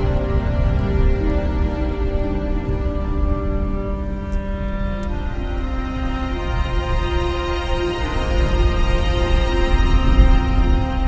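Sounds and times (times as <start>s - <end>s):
music of long held notes: 0.0s - 11.0s
steady low rumble: 0.0s - 11.0s.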